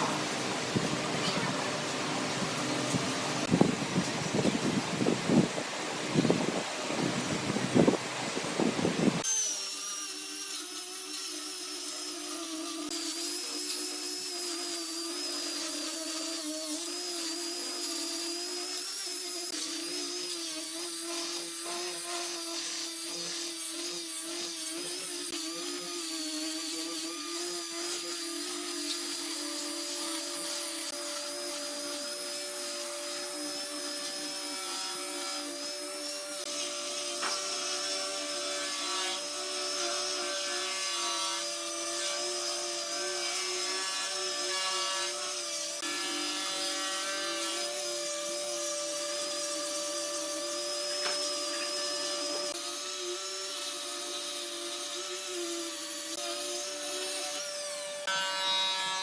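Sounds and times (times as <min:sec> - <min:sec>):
power tool on wood: 0:00.0 - 0:59.0.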